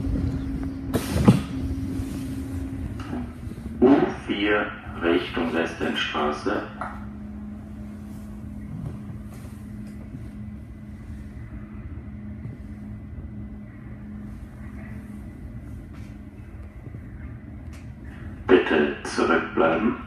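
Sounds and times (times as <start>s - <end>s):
train electrical hum and rumble: 0.0s - 20.0s
constant tone: 1.5s - 20.0s.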